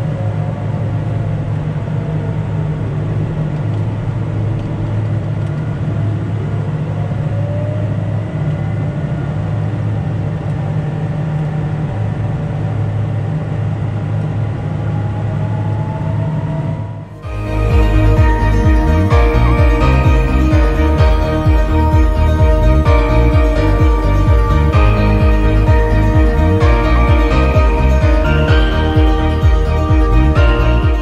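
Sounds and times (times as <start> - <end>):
tractor engine hum: 0.0 - 31.0
snowblower whine: 0.2 - 31.0.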